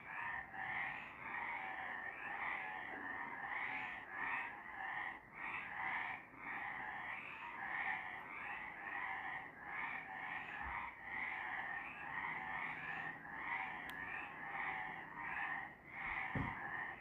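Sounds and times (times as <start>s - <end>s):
frogs croaking: 0.0s - 17.0s.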